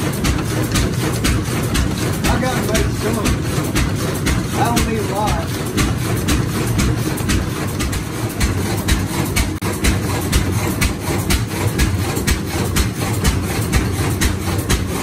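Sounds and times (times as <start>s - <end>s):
grist mill grinding rumble: 0.0s - 15.0s
single-cylinder engine knocking: 0.0s - 15.0s.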